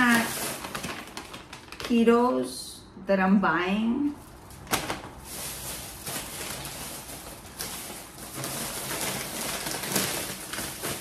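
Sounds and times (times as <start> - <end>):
plastic bag rustling: 0.0 - 2.1, 4.1 - 11.0.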